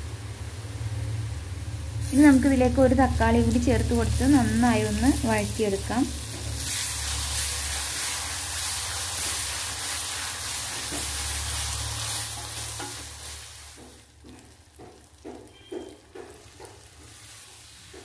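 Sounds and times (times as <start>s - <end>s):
masala sizzling in hot oil: 0.0s - 18.0s.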